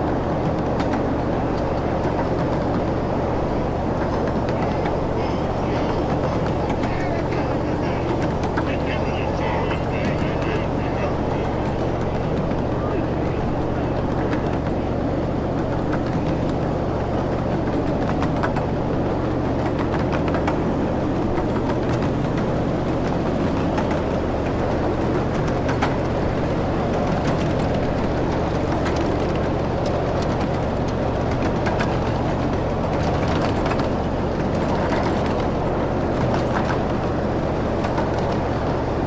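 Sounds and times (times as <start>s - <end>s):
small train engine hum: 0.0s - 39.0s.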